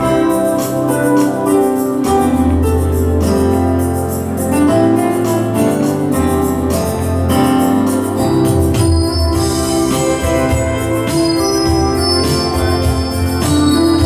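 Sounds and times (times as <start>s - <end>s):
sustained organ-like keyboard chords: 2.5s - 14.0s.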